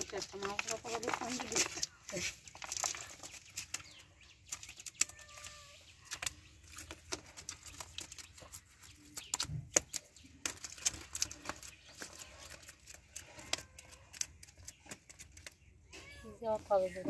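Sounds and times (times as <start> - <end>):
fish slapping on wet concrete: 0.0 - 15.6.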